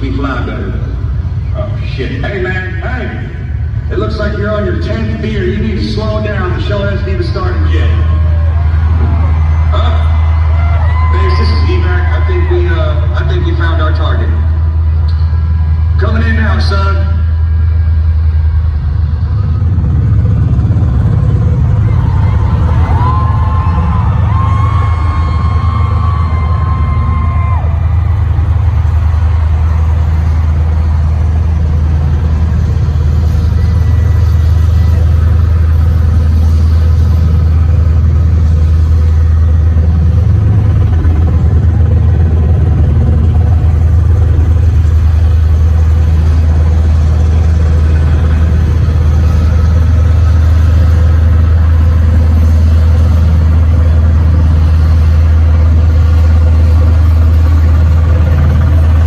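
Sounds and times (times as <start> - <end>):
helicopter drone: 0.0 - 59.0.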